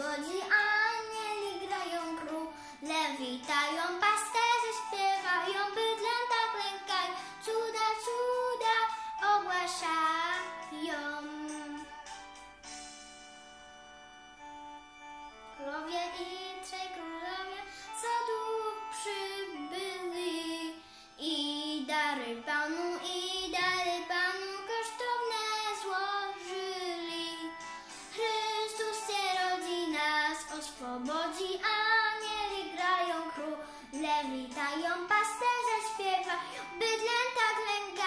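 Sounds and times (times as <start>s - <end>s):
girl singing: 0.0s - 12.3s, 15.6s - 38.0s
instrumental backing music: 0.0s - 38.0s.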